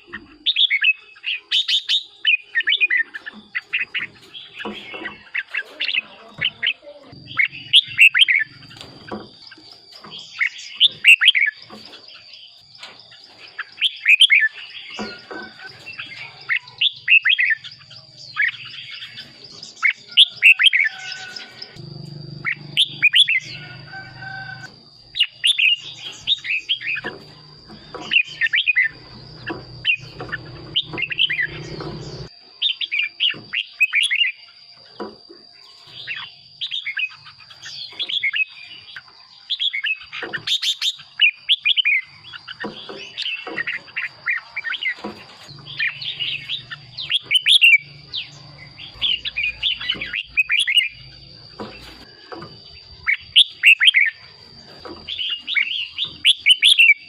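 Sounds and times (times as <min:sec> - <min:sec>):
bird singing warbling phrases: 0:00.0 - 0:57.0.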